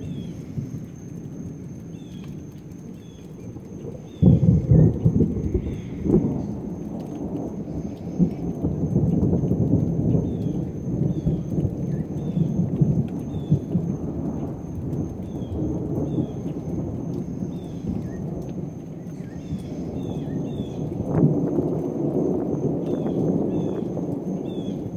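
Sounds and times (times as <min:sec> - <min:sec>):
thunder rumbling: 0:00.0 - 0:24.9.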